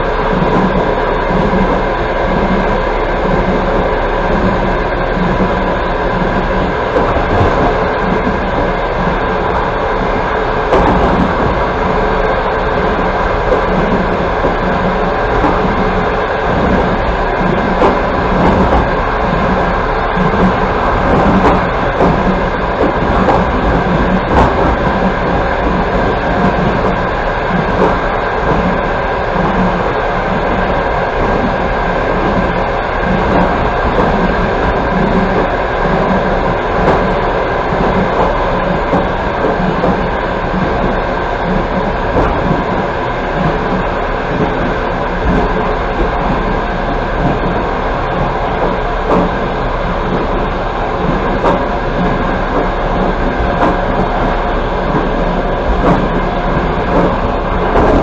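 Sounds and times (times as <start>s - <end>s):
train rolling rumble: 0.0s - 58.0s
wheel clicks over rails: 0.0s - 58.0s.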